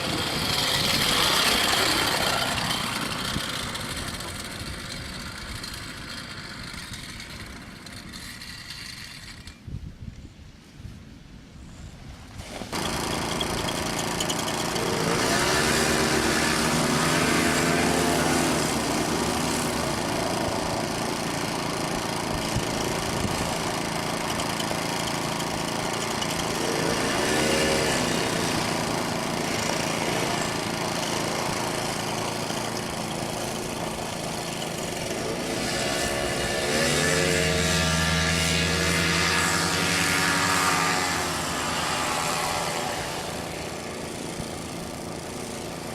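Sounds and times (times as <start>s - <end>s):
paramotor engine and propeller: 0.0s - 9.7s, 12.4s - 45.9s.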